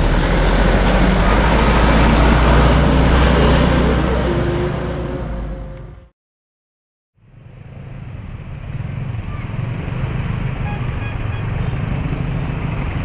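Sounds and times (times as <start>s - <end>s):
rumble of passing traffic: 0.0s - 6.1s, 7.2s - 13.0s.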